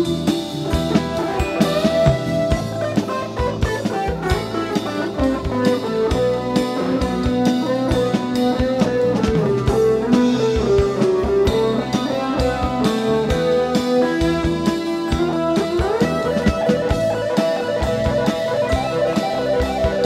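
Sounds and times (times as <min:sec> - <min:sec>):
band playing instrumental: 0:00.0 - 0:20.0
steady drum beat: 0:00.0 - 0:20.0.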